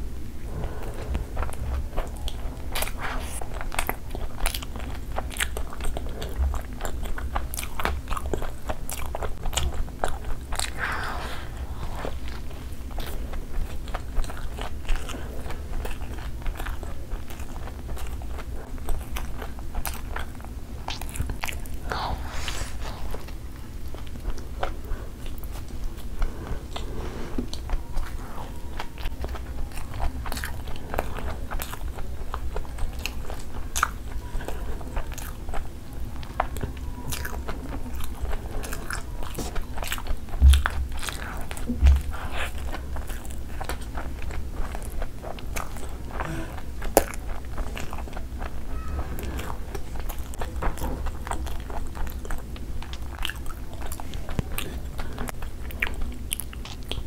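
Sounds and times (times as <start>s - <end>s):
chewing and biting food: 0.0s - 57.0s.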